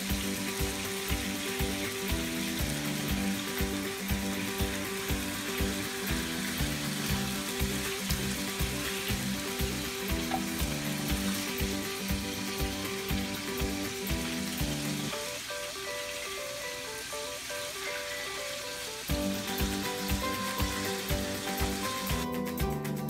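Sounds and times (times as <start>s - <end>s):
chicken sizzling in a frying pan: 0.0s - 22.7s
music with a steady beat: 0.0s - 23.0s.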